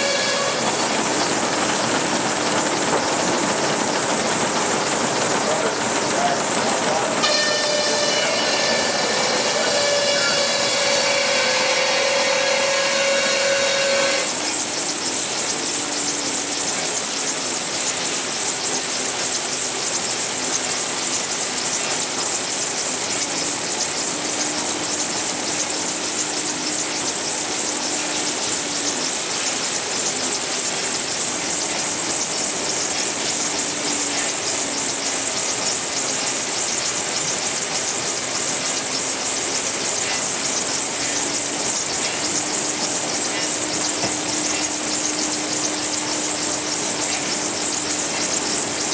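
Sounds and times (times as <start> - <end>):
sawmill whirring and hissing: 0.0 - 48.9.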